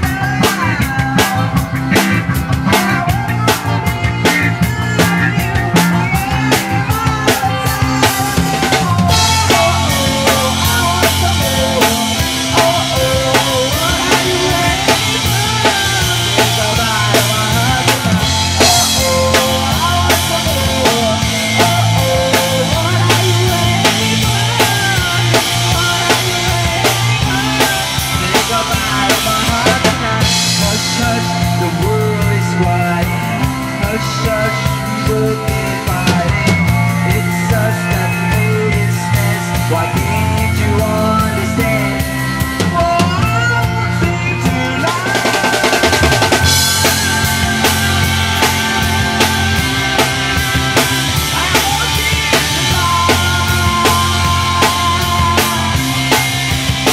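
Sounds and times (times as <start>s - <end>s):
bass line: 0.0s - 56.9s
bending melodic lead line: 0.0s - 56.9s
drum kit beat: 0.0s - 56.9s
rock band instrumental: 0.0s - 56.9s.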